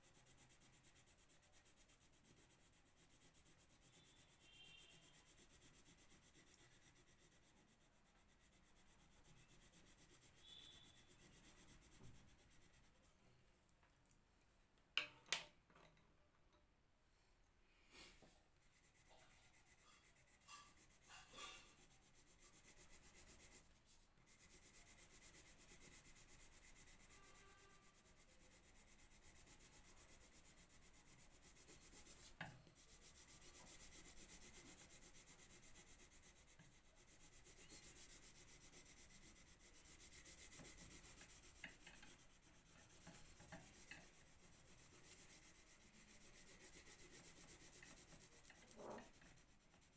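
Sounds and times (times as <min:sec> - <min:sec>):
pencil scratching on paper: 0:00.0 - 0:13.2, 0:17.9 - 0:49.9.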